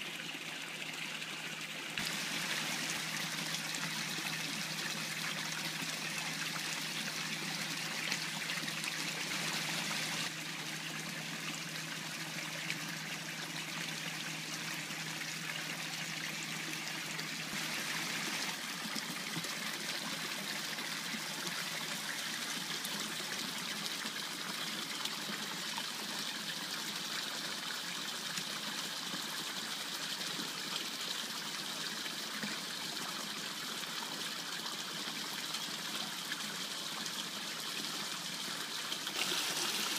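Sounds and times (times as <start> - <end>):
water pouring into a pond: 0.0 - 39.9.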